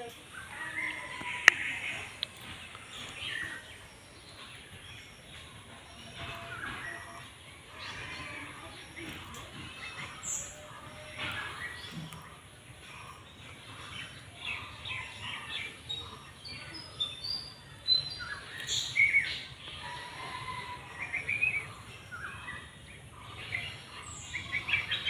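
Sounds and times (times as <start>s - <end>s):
birds chirping and twittering: 0.0s - 25.0s.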